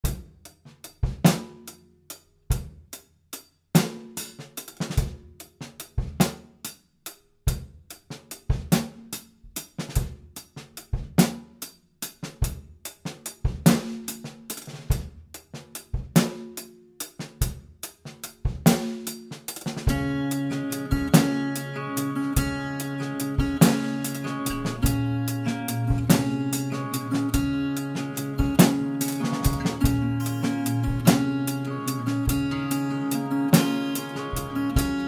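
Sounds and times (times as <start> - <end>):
acoustic drum kit groove: 0.0 - 35.0.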